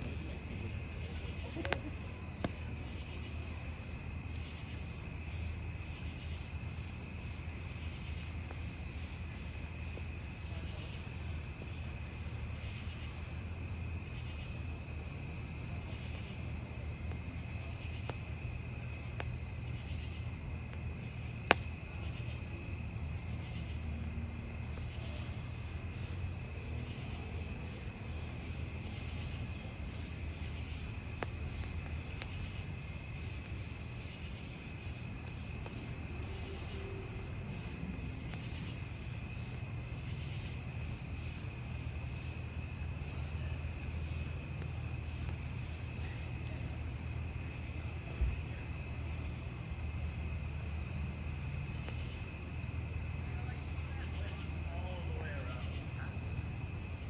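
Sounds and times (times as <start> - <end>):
campfire burning: 0.0 - 57.0
crickets chirping: 0.0 - 57.0
firewood popping: 0.0 - 57.0.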